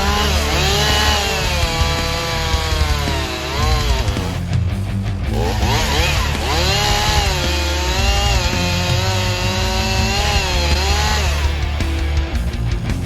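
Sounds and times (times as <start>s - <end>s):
chainsaw cutting a tree: 0.0s - 4.5s, 5.3s - 11.8s
rock music: 0.0s - 13.0s.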